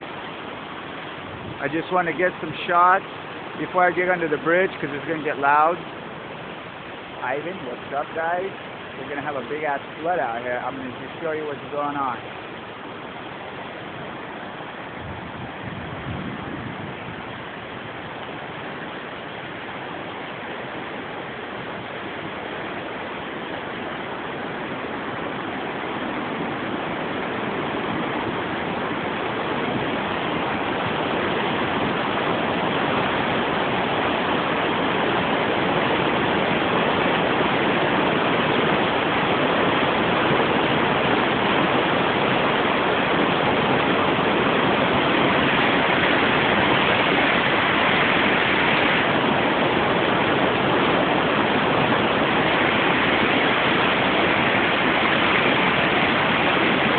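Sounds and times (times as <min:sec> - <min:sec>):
flooded river water rushing: 0:00.0 - 0:56.9.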